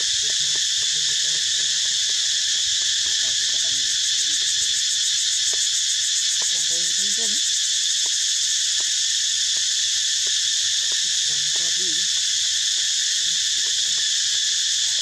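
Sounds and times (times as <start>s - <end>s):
insects chorus drone: 0.0s - 15.0s.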